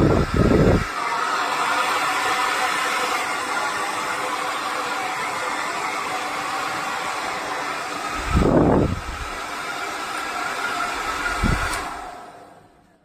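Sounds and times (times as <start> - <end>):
hair dryer blowing air: 0.0 - 12.6.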